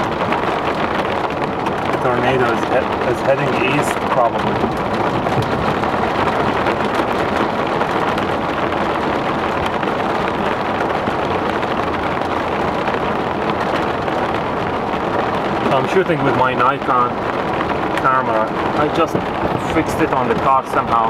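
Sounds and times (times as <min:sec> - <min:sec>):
heavy rain pouring: 0:00.0 - 0:21.0
raindrops striking close: 0:00.0 - 0:21.0.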